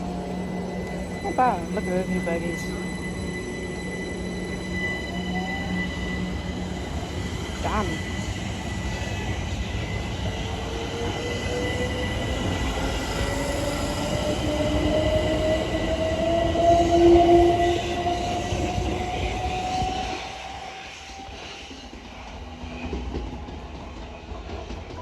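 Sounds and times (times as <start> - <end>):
low train rumble: 0.0 - 25.0
train traction motor whine: 0.0 - 25.0.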